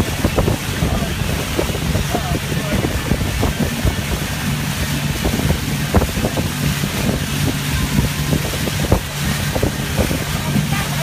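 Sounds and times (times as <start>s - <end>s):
churning wake rushing: 0.0s - 11.0s
motorboat engine hum: 0.0s - 11.0s
wind buffeting microphone: 0.0s - 11.0s.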